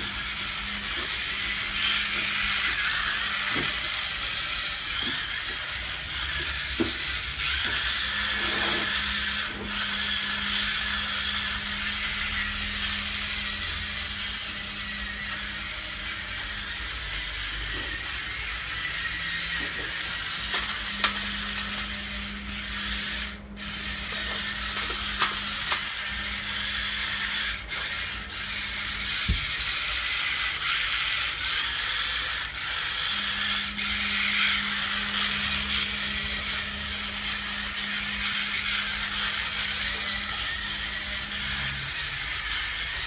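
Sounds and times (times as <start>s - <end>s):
electric motors whining: 0.0s - 43.0s.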